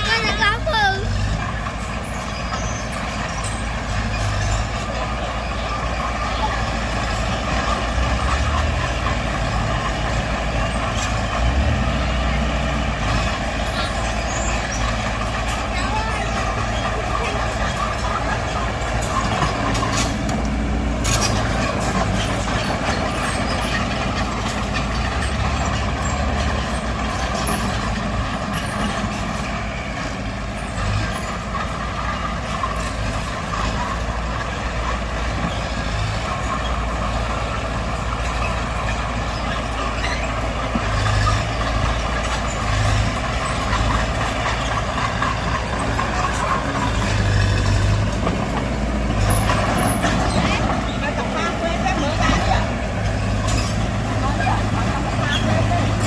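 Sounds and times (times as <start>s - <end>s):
diesel machinery engines running: 0.0s - 56.0s.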